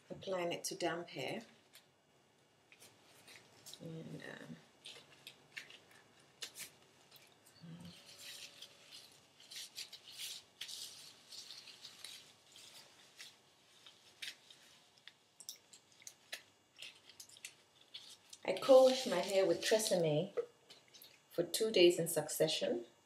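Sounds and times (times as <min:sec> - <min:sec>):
gloved hands squishing damp hair: 0:02.7 - 0:21.3.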